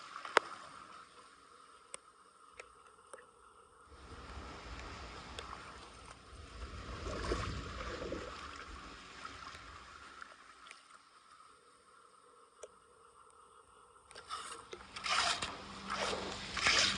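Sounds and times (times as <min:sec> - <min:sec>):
water rushing and churning: 0:00.0 - 0:16.9.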